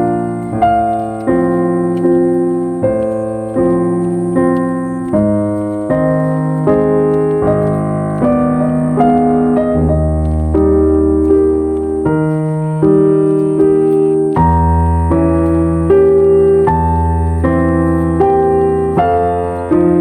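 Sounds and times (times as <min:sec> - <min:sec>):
slow calm piano chords: 0:00.0 - 0:20.0.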